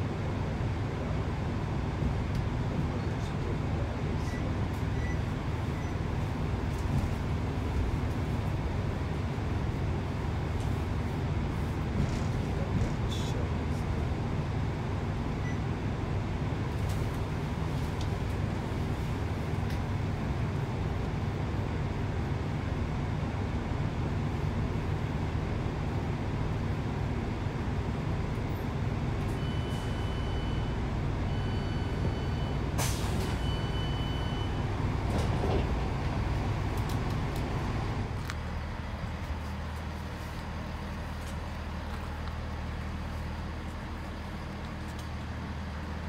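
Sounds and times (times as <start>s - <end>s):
train engine rumble inside carriage: 0.0s - 46.0s.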